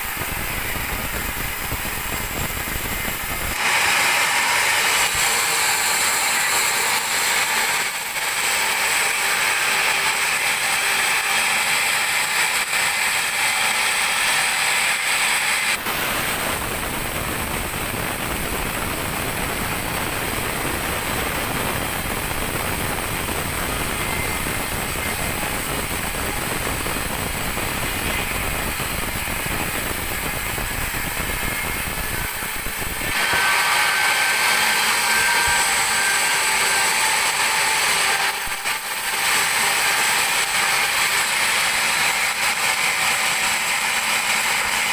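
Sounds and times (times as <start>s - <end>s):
band saw cutting log: 0.0s - 44.9s
machine running: 0.0s - 44.9s.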